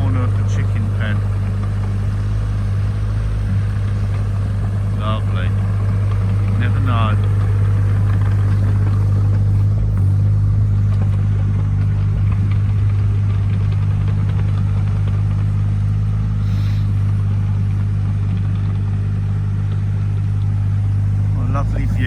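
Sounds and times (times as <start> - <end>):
machine engine humming steadily: 0.0 - 22.0.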